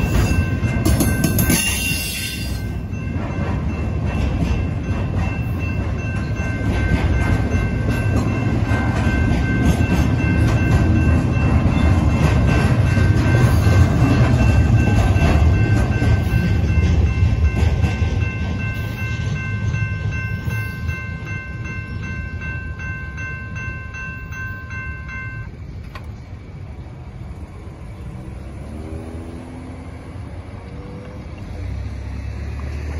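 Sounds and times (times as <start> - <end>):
railroad crossing bell ringing: 0.0 - 27.6
low train rumble: 0.0 - 32.9.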